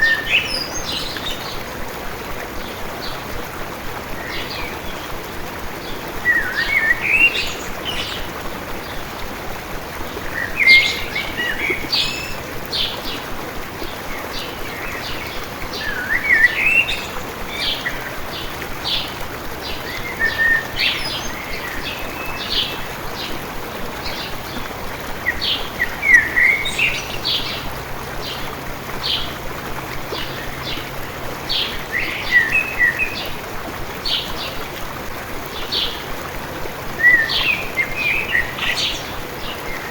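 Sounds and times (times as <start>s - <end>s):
songbirds singing: 0.0s - 34.8s, 35.5s - 39.9s
stream running water: 0.0s - 39.9s.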